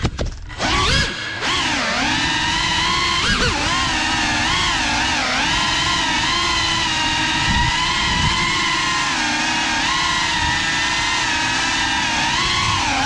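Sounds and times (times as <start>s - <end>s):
drone propellers whining: 0.4s - 13.0s.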